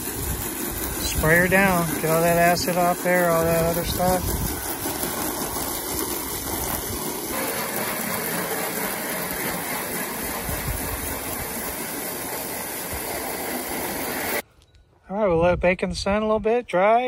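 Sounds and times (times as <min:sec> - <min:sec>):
hose spraying on metal roofing: 0:00.0 - 0:14.4.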